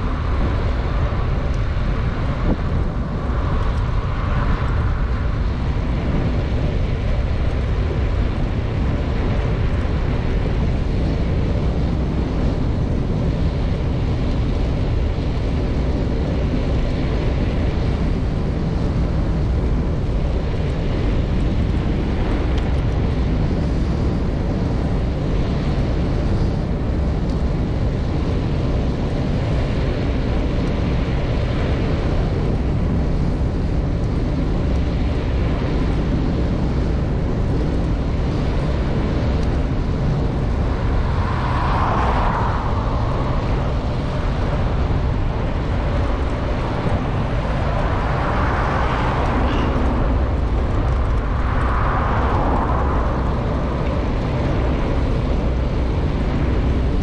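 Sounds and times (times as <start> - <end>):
road noise: 0.0 - 57.0
wind rumble on microphone: 0.0 - 57.0.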